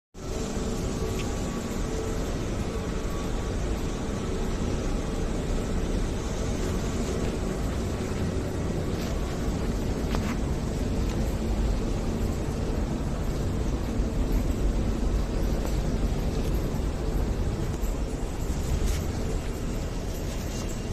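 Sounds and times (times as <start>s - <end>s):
airport terminal rumble and hiss: 0.2s - 20.9s
faint steady hum: 0.2s - 20.9s.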